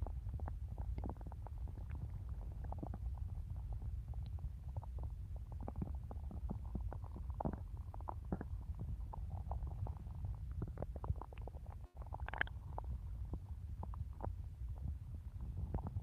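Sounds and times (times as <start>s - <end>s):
stomach growling and gurgling: 0.0s - 16.0s.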